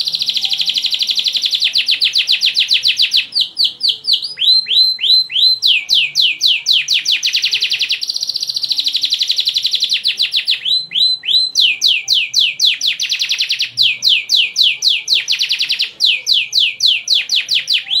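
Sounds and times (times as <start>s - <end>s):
canary singing: 0.0s - 18.0s.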